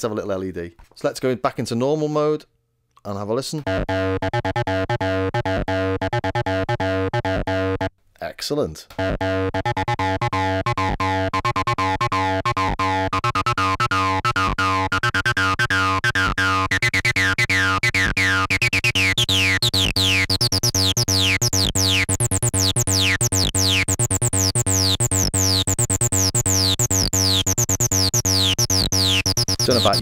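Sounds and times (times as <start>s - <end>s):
synthesizer acid bassline: 3.6s - 7.9s, 8.9s - 30.0s.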